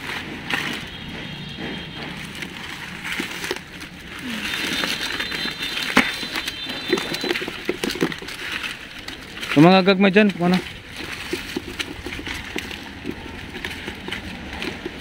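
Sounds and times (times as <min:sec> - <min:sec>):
wet leaves rustling: 0:00.0 - 0:15.0.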